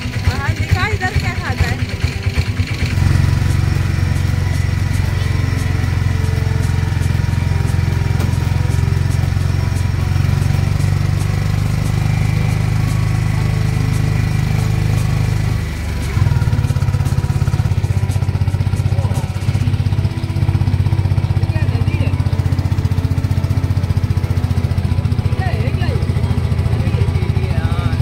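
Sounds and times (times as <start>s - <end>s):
vehicle engine under load: 0.0s - 28.0s.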